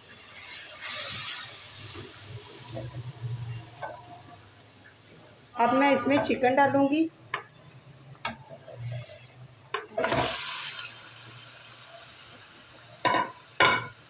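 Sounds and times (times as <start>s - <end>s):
chicken sizzling in hot oil: 0.0s - 4.7s, 6.7s - 14.0s.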